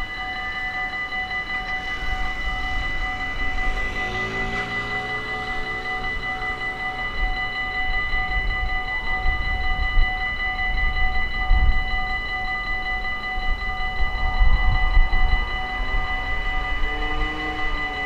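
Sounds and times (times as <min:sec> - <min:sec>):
level crossing bell ringing: 0:00.0 - 0:18.0.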